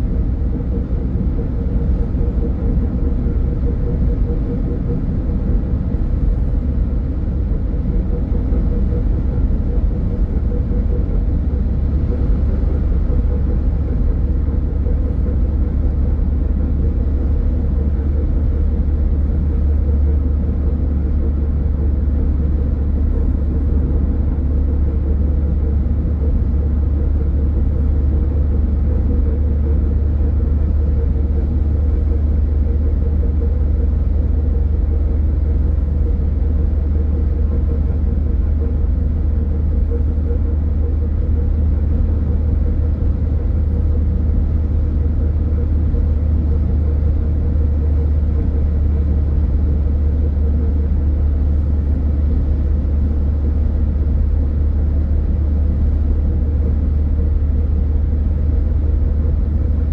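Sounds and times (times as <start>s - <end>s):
car engine and tyre noise: 0.0s - 59.9s
faint constant hum: 0.0s - 59.9s.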